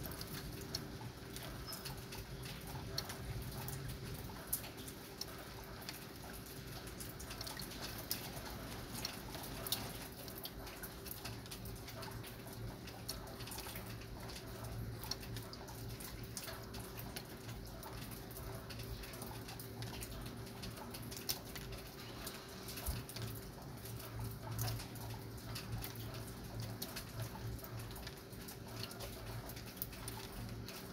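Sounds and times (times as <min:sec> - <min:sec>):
light rain hiss: 0:00.0 - 0:30.9
raindrops pattering: 0:00.0 - 0:30.9.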